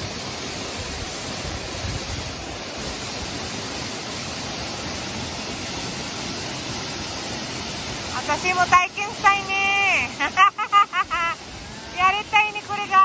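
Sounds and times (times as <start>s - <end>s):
waterfall pouring: 0.0s - 13.0s.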